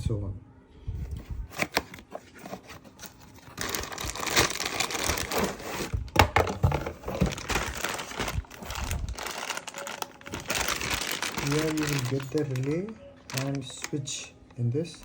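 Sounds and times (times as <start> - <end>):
packaging crinkling and rustling: 1.2 - 15.0.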